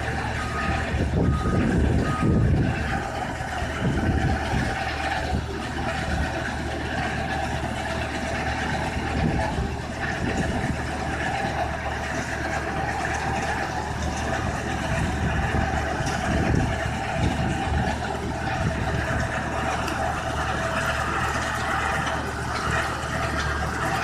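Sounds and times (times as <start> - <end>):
screening machine mechanical drone: 0.0 - 24.0.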